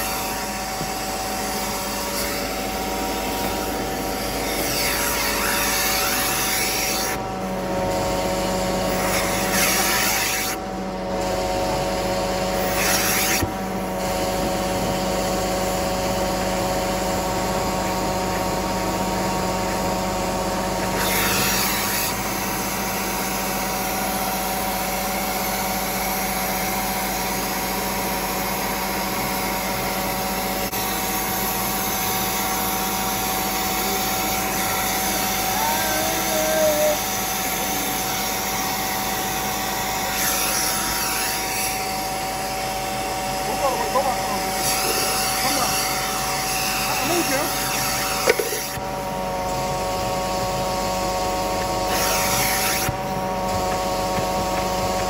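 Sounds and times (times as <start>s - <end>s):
vacuum motor whining: 0.0s - 55.0s.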